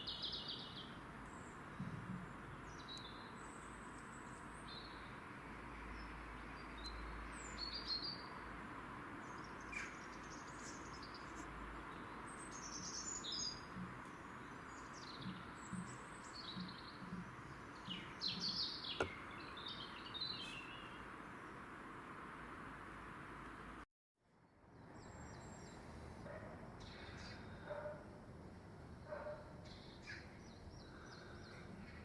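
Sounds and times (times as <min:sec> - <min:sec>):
small birds chirping: 0:00.0 - 0:21.8, 0:25.0 - 0:28.0, 0:28.9 - 0:32.0.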